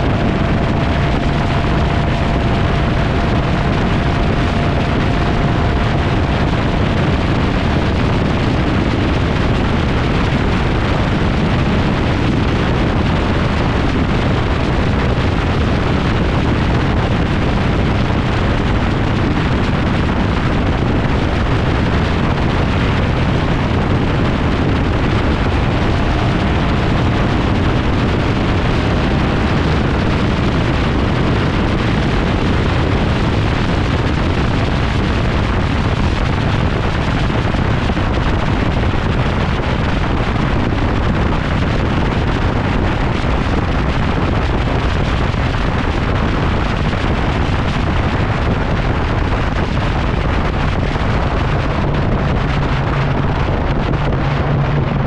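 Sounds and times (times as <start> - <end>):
truck driving noise: 0.0 - 55.0
wind buffeting camera: 0.0 - 55.0.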